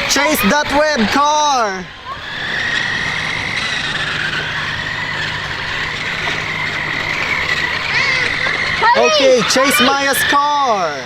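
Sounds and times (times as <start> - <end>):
toy car electric motor whining: 0.0 - 11.0.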